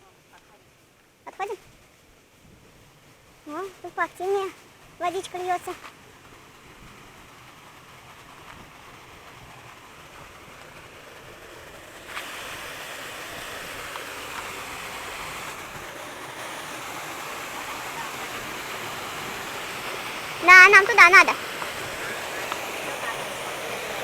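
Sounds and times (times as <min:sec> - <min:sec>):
water rushing over rocks: 0:03.0 - 0:24.0.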